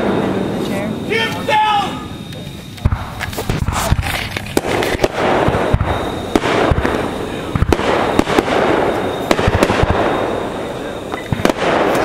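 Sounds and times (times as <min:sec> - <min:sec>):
fireworks crackling hiss: 0:00.0 - 0:12.0
fireworks bangs and pops: 0:02.2 - 0:12.0.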